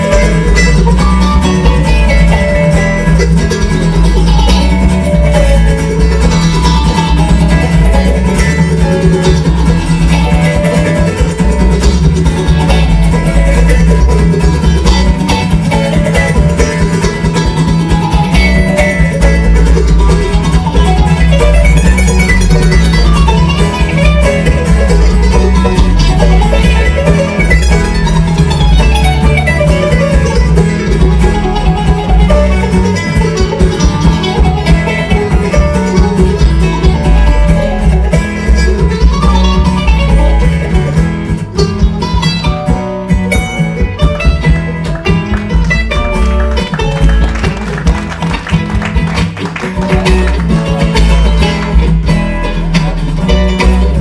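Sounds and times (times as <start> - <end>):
bluegrass band playing: 0.0 - 54.0.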